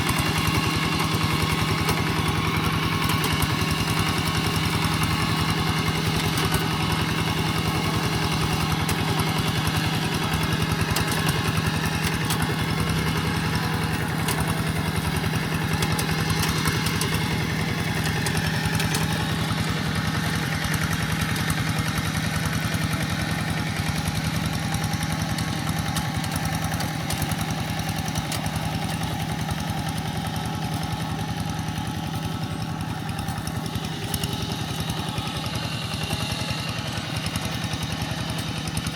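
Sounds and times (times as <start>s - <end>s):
walking tractor engine running: 0.0s - 38.9s.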